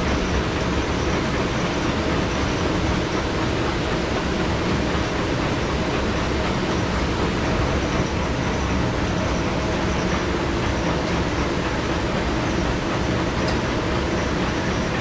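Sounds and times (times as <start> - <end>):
dishwashing machine hum and hiss: 0.0 - 15.0.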